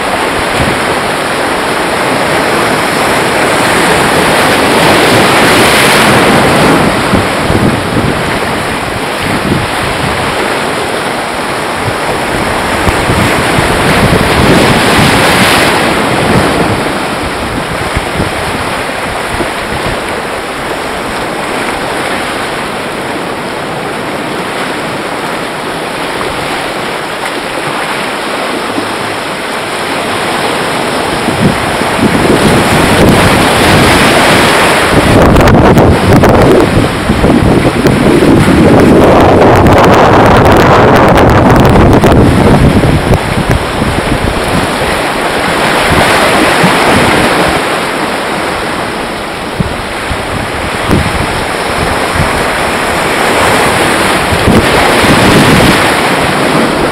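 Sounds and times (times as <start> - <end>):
waves washing over rocks: 0.0 - 56.9
wind buffeting microphone: 0.0 - 56.9.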